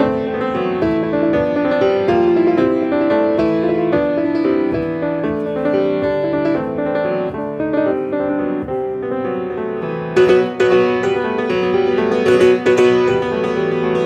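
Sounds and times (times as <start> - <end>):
acoustic piano playing: 0.0 - 14.0.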